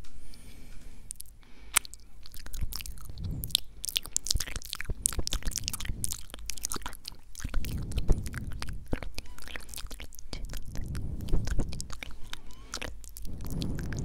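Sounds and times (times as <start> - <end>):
mouth clicks and smacks: 0.3 - 14.0.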